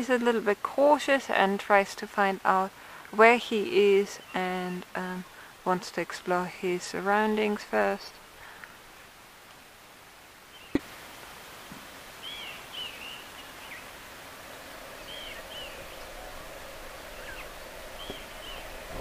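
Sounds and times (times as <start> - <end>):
steady outdoor hiss: 0.0 - 19.0
birds chirping: 1.3 - 9.2, 10.4 - 10.9, 12.0 - 19.0.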